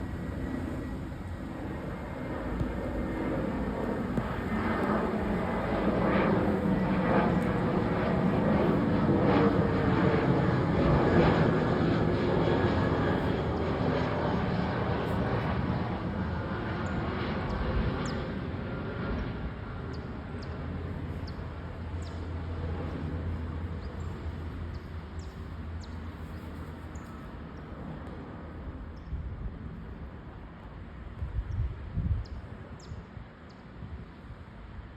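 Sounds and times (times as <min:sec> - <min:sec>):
airplane passing overhead: 0:00.0 - 0:34.9.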